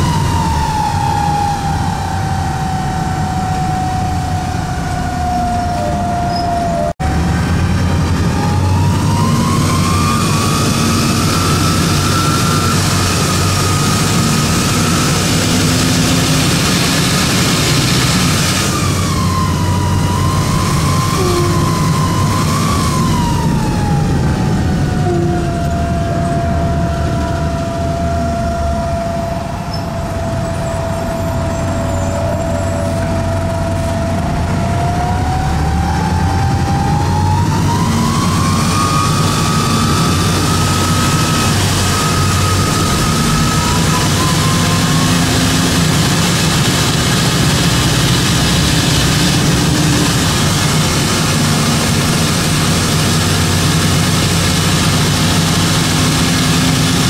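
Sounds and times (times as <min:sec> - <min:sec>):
bus diesel engine running: 0:00.0 - 0:57.0
turbo whine: 0:00.0 - 0:57.0.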